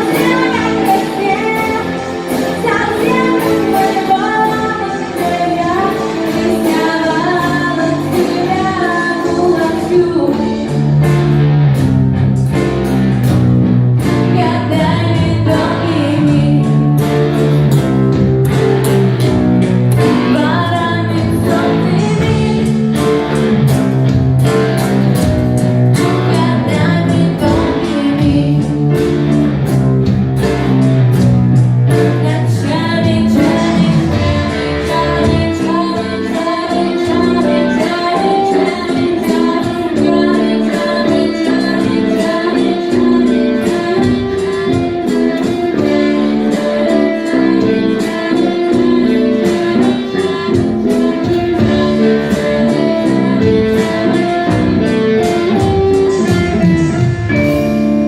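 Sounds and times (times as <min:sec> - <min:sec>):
person singing: 0:00.0 - 0:11.0, 0:14.1 - 0:17.4, 0:20.0 - 0:23.5, 0:26.0 - 0:29.4, 0:31.9 - 0:58.0
band playing guitar-led song: 0:00.0 - 0:58.0.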